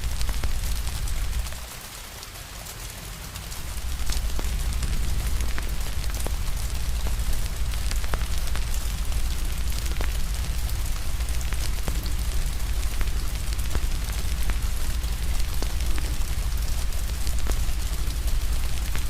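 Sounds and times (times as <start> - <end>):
crackling wood fire: 0.0 - 19.0
rain hiss: 0.0 - 19.0
low rumble: 3.7 - 19.0.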